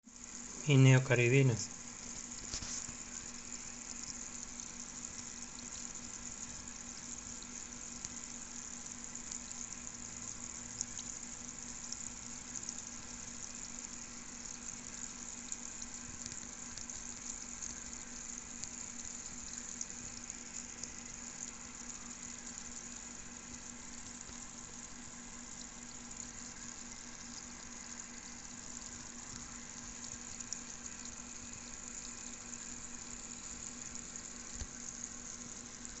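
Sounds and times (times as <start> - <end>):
aquarium water fizzing: 0.0 - 36.0
low equipment hum: 0.1 - 36.0
faint ticks: 1.9 - 36.0.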